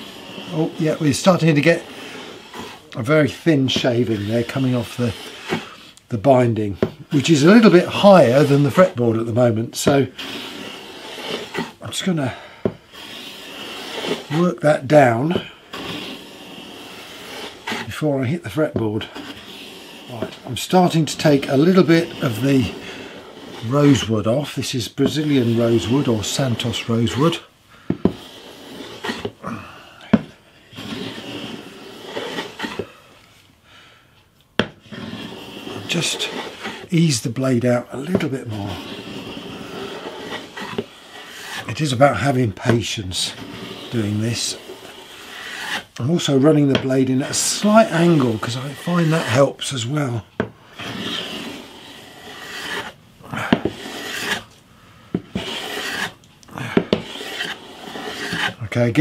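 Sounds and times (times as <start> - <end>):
plane rasping on wood: 0.0 - 5.9, 6.8 - 29.5, 30.1 - 32.9, 34.6 - 59.0.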